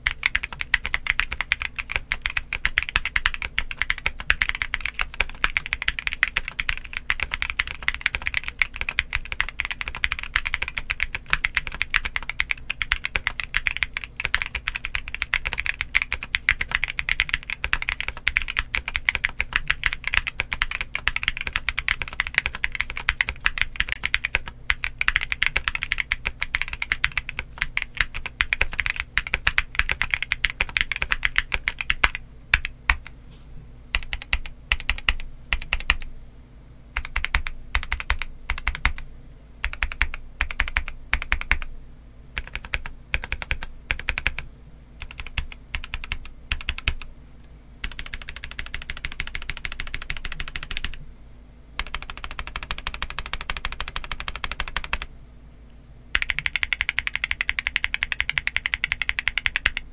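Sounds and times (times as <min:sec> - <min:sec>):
typing on mechanical keyboard: 0:00.0 - 0:33.1, 0:33.9 - 0:36.1, 0:37.0 - 0:39.0, 0:39.6 - 0:41.7, 0:42.4 - 0:44.4, 0:45.0 - 0:47.1, 0:47.8 - 0:51.0, 0:51.8 - 0:55.1, 0:56.2 - 0:59.9.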